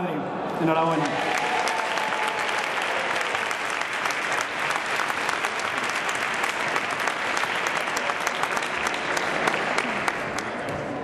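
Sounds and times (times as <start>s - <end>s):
audience applauding: 0.5s - 11.0s.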